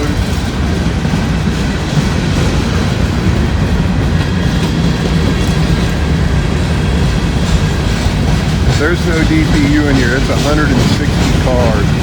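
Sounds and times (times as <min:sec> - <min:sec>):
freight train rumbling past: 0:00.0 - 0:12.0
wheels clacking over rail: 0:00.0 - 0:12.0.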